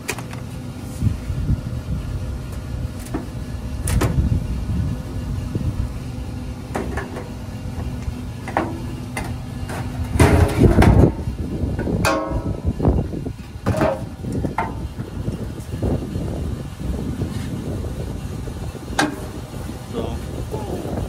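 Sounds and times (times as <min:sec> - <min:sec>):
low rumble: 0:00.8 - 0:21.0.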